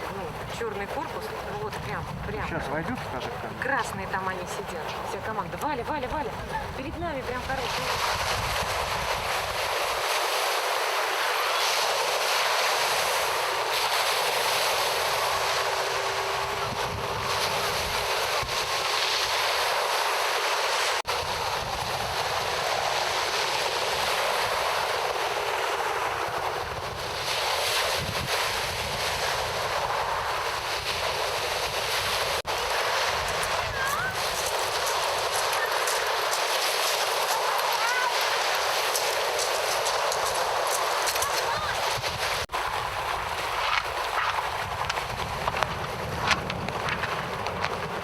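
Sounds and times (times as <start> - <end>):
wind buffeting microphone: 0.0 - 20.4, 21.0 - 48.0
rushing water at sea: 0.0 - 48.0.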